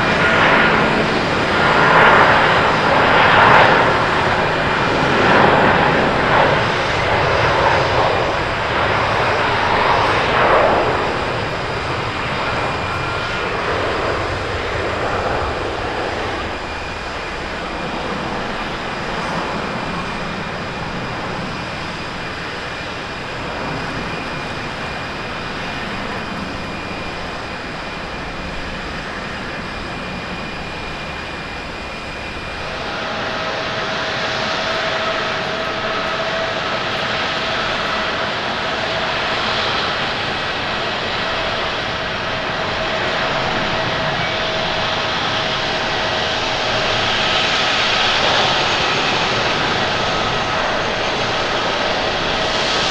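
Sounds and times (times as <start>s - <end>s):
jet airliner engines roaring: 0.0s - 52.9s
jet engine whine: 0.0s - 52.9s.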